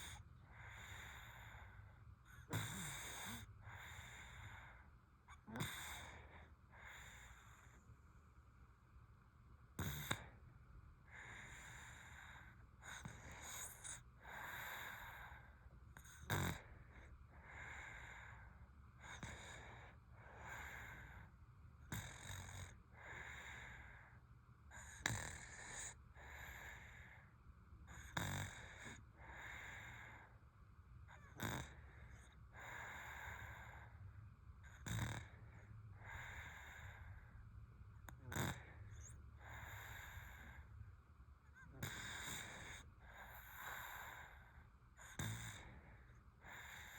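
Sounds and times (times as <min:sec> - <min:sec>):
baby snoring faintly: 0:00.0 - 0:07.9, 0:09.8 - 0:10.4, 0:11.1 - 0:21.3, 0:21.9 - 0:24.2, 0:24.8 - 0:27.3, 0:27.9 - 0:30.4, 0:31.1 - 0:34.0, 0:34.7 - 0:37.4, 0:38.0 - 0:40.8, 0:41.5 - 0:46.9.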